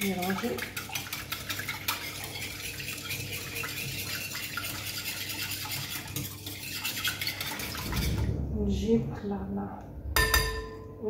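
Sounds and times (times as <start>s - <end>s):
liquid sloshing: 0.0s - 9.3s.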